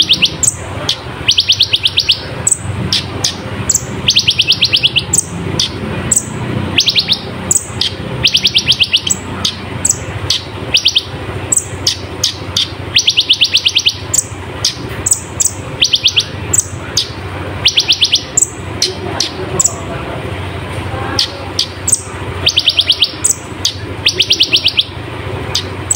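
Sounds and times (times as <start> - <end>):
sharp high bird chips: 0.0 - 19.8, 21.2 - 25.9
bird trilling: 0.0 - 19.9, 21.2 - 25.9
steady low hum: 0.0 - 25.9.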